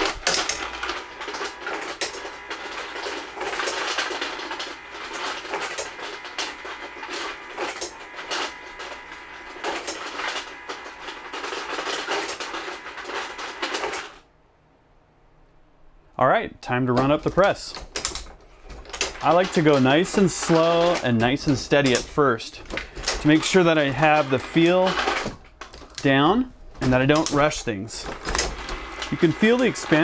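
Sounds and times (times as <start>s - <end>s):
brass cases clattering in feeder: 0.0s - 14.2s, 17.0s - 26.2s, 26.8s - 30.0s.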